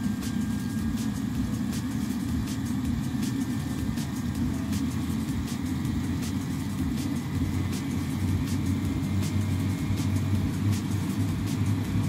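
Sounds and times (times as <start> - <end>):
heater burner low rumble: 0.0 - 12.0.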